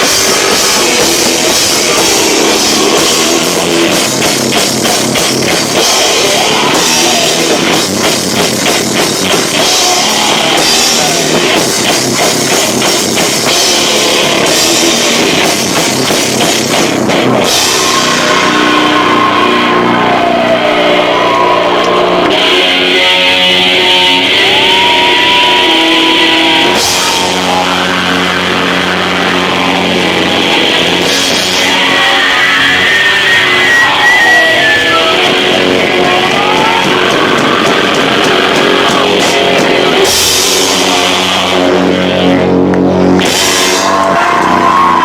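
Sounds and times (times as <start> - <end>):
distorted electric guitar: 0.0 - 45.0
drum kit: 0.0 - 45.0.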